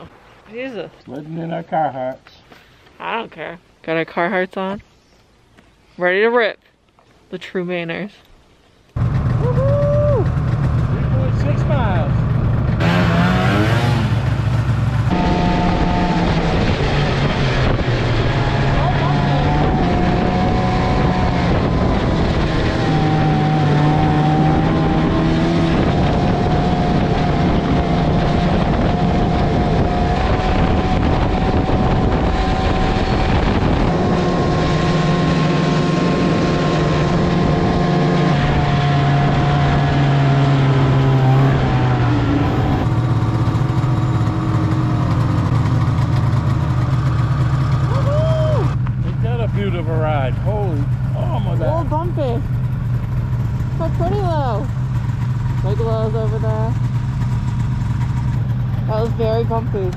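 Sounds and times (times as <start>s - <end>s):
snowmobile engine running: 9.0s - 59.9s.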